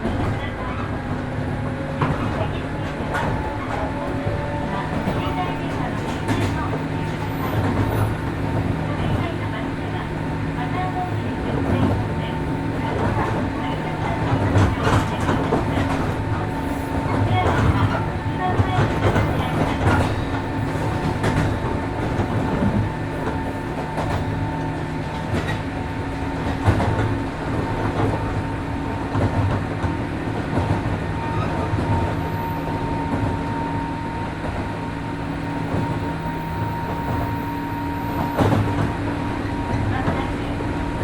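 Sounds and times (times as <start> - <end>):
train running noise with hum: 0.0 - 41.0.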